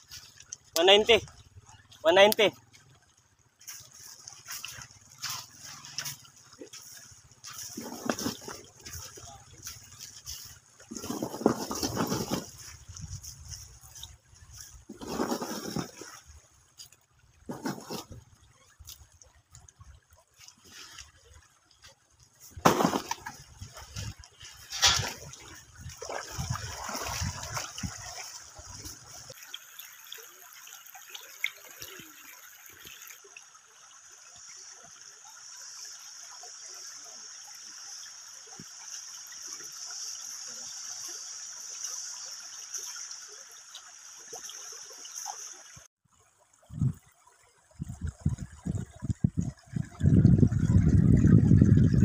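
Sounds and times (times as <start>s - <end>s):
river water trickling and splashing: 0.0s - 52.0s.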